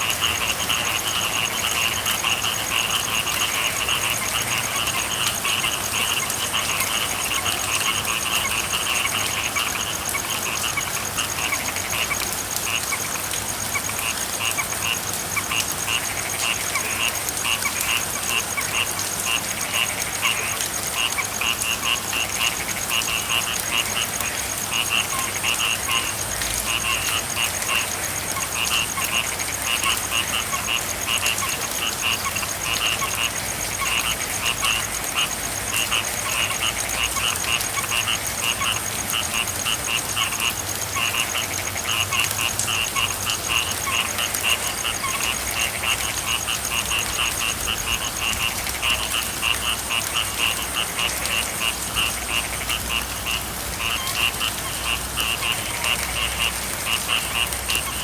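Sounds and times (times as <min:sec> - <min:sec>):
frogs croaking: 0:00.0 - 0:58.0
rainfall hiss: 0:00.0 - 0:58.0.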